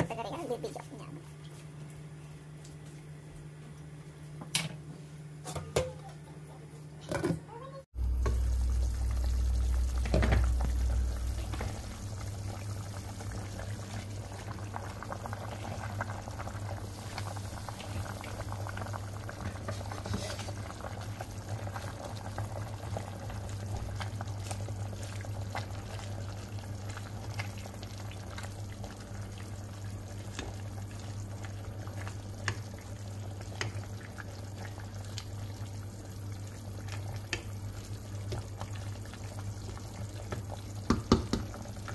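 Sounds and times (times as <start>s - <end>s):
low steady hum: 0.0s - 41.9s
soup bubbling in a pot: 8.0s - 41.9s.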